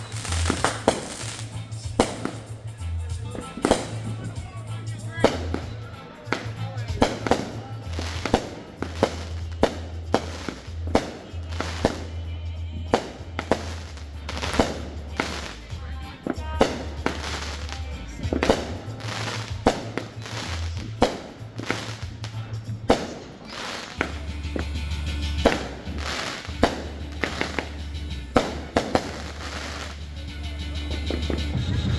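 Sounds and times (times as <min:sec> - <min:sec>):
fireworks bangs: 0:00.0 - 0:30.2
music with low bass: 0:00.0 - 0:31.9.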